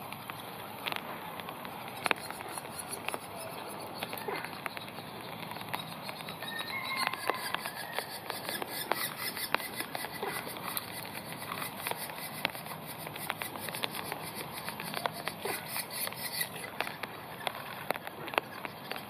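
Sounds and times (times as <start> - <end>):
woodpecker nestlings ticking: 0.0 - 19.0.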